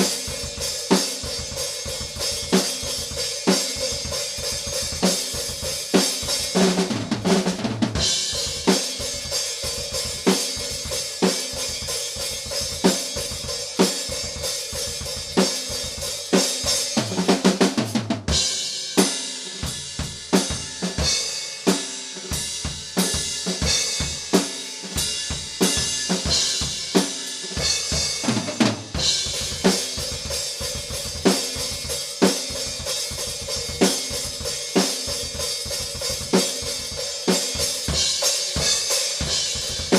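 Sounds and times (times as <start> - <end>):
drum kit playing metal groove: 0.0 - 39.9.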